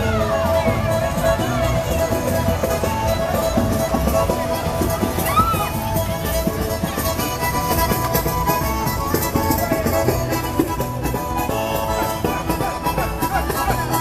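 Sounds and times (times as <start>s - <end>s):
folk dance music: 0.0s - 14.0s.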